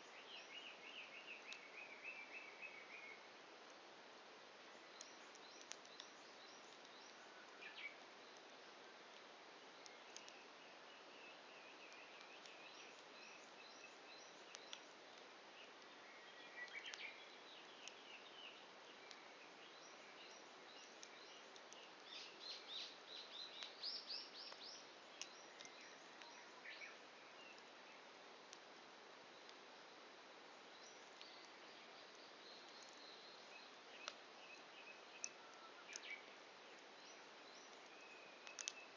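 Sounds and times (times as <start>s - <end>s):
campfire crackles: 0.0s - 38.9s
faint birdsong chirps: 0.0s - 38.9s
quiet steady hiss: 0.0s - 38.9s.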